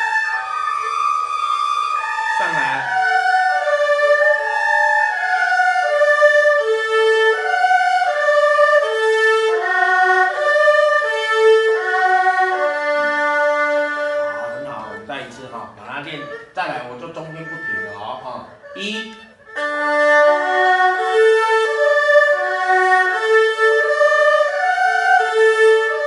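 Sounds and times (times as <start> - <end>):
bowed erhu arpeggios: 0.0 - 26.0.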